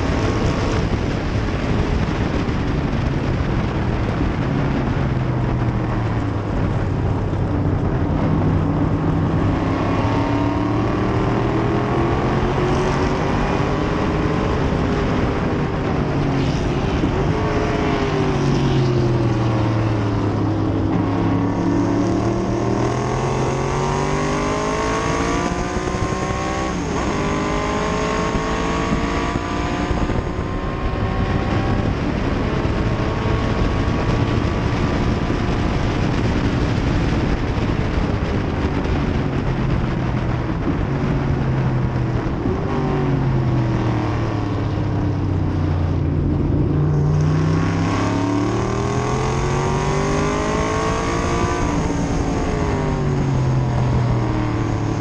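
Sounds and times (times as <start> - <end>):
wind rush: 0.0 - 55.0
racing car engine accelerating: 5.0 - 36.9, 42.1 - 55.0.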